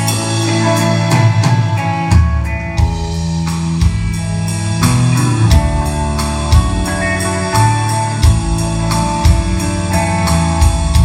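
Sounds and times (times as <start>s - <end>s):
bass guitar: 0.0s - 11.0s
drum kit with cymbal hits: 0.0s - 11.0s
electric guitar: 0.0s - 11.0s.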